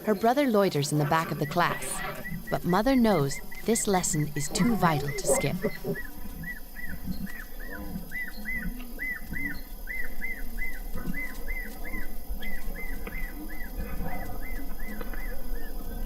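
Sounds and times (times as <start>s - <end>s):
lower irregular animal calls: 0.0s - 16.0s.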